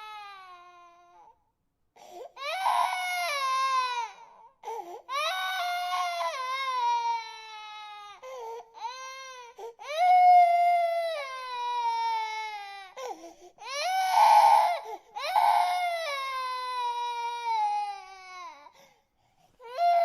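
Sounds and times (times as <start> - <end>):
baby crying: 0.0 - 1.3, 2.4 - 18.7, 19.6 - 20.0.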